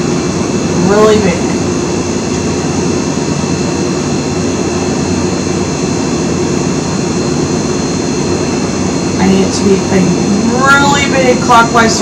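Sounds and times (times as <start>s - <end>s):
fan droning with faint whine: 0.0s - 12.0s.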